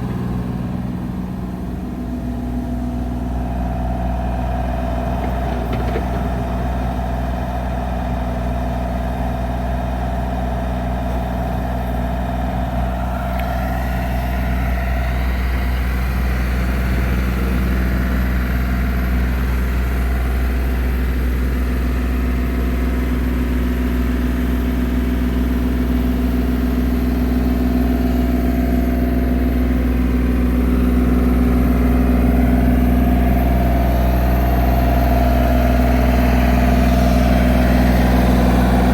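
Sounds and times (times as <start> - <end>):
diesel excavator engine running: 0.0 - 38.9.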